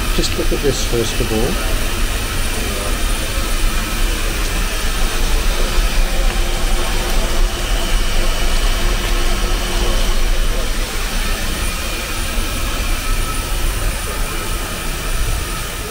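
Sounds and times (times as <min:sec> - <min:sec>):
firebox fire rushing: 0:00.0 - 0:15.9.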